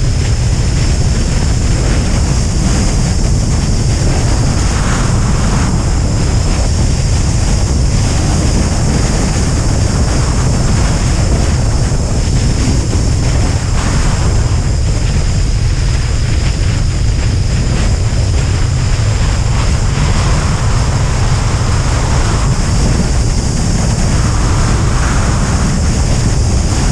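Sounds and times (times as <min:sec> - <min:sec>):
wind noise on microphone: 0:00.0 - 0:26.9.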